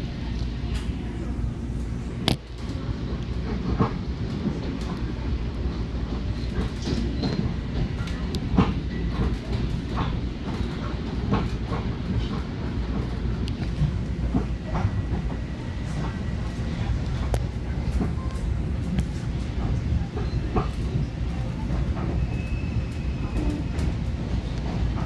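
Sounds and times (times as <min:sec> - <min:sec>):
train rumbling: 0:00.0 - 0:25.0
wheels clacking on track: 0:02.2 - 0:25.0.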